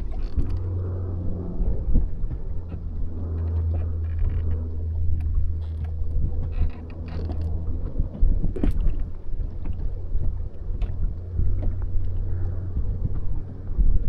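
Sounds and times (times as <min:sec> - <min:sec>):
boat motor running: 0:00.0 - 0:14.0
wind buffeting microphone: 0:00.0 - 0:14.0.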